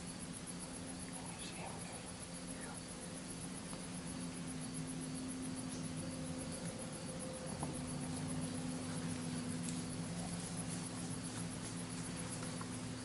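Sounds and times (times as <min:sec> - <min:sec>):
crickets chirping: 0:00.0 - 0:13.0
faint low hum: 0:00.0 - 0:13.0
steady hiss: 0:00.0 - 0:13.0.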